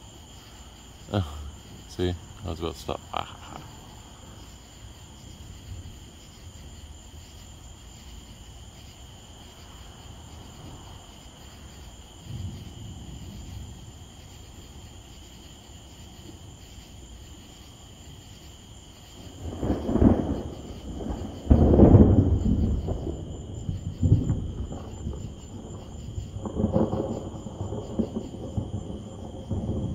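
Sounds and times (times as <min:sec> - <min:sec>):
thunder rumbling: 0:00.0 - 0:16.8, 0:19.0 - 0:29.9.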